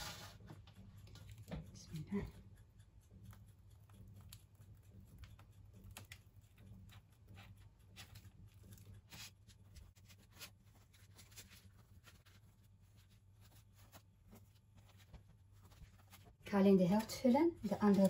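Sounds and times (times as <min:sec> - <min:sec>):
faint low hum: 0:00.1 - 0:18.0.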